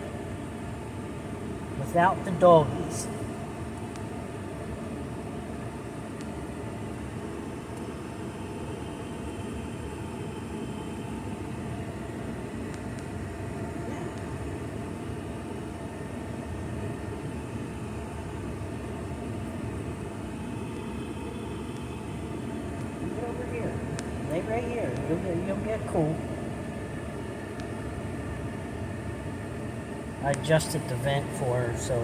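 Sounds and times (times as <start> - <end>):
air-conditioning blower: 0.0 - 32.0.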